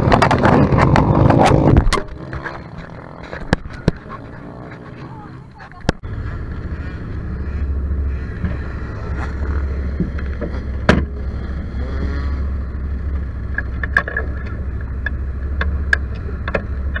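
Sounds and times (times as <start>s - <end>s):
off-road vehicle engine idling: 0.0s - 17.0s.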